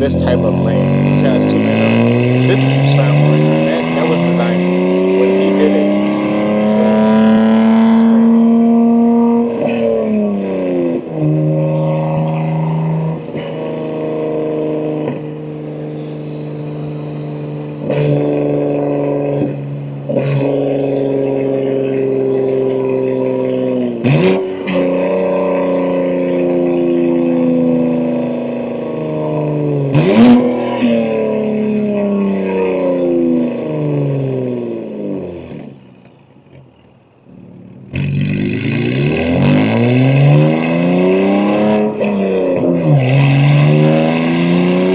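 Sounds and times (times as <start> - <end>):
car engine through the gears: 0.0 - 44.9
engine rev blips: 0.0 - 44.9.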